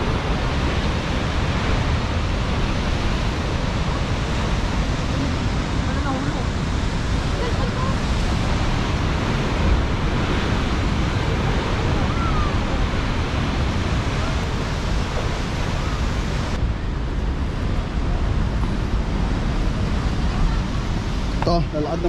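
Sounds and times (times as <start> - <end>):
heavy surf breaking: 0.0 - 22.0
wind buffeting microphone: 0.0 - 22.0.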